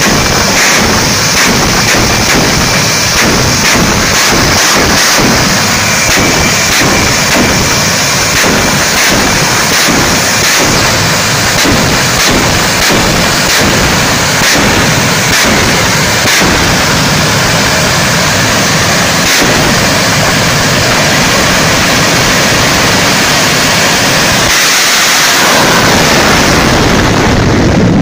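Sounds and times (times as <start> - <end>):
afterburner pops: 0.0 - 28.0
jet engine roaring: 0.0 - 28.0.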